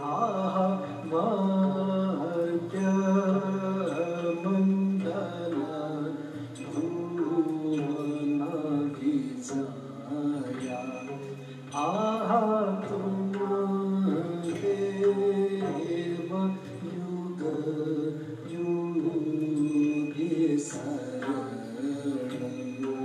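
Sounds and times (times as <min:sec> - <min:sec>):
solo voice chanting: 0:00.0 - 0:23.0.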